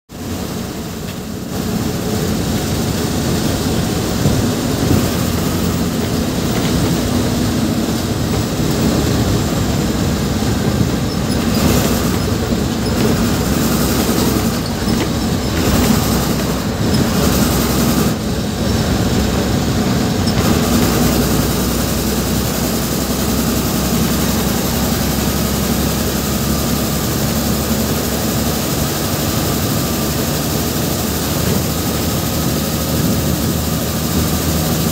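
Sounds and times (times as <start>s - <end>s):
bus body rattling: 0.1s - 34.9s
bus engine drone: 0.1s - 34.9s
road noise: 0.1s - 34.9s.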